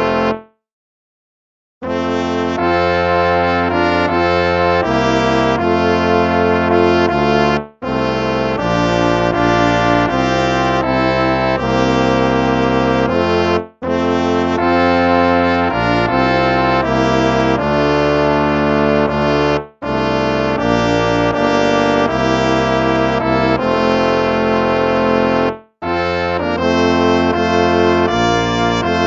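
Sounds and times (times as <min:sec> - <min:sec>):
brass hymn music: 0:00.0 - 0:00.5, 0:01.8 - 0:29.0.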